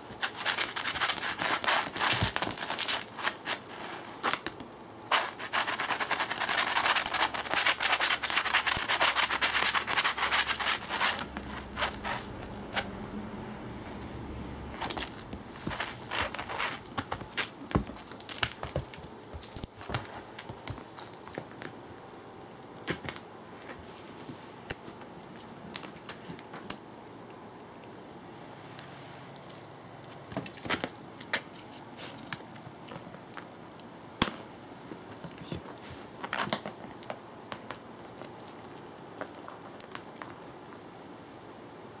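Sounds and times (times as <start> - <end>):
cats rustling and scuffing: 0.0 - 27.4, 28.2 - 40.9.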